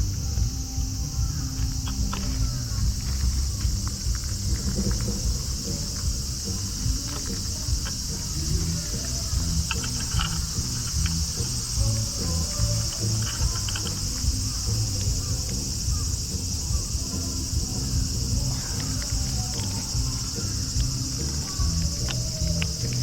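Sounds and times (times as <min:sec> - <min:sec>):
high-pitched insect chorus: 0:00.0 - 0:23.0
low rumble: 0:00.0 - 0:23.0.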